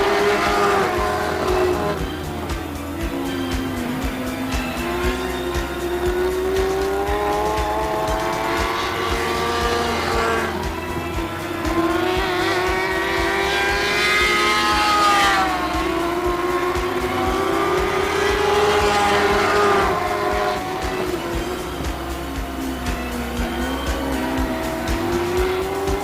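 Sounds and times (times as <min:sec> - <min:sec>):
race car engines revving: 0:00.0 - 0:26.0.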